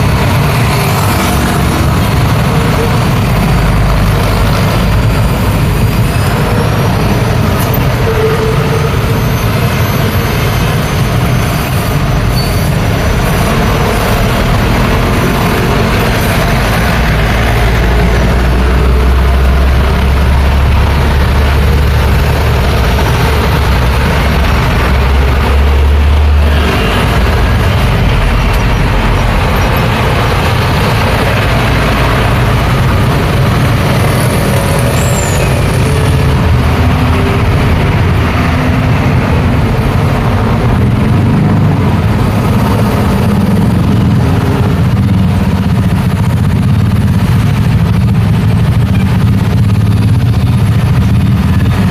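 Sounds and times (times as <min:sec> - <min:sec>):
heavy vehicle engine rumble: 0:00.0 - 0:51.9
mixed road traffic passing: 0:00.0 - 0:51.9.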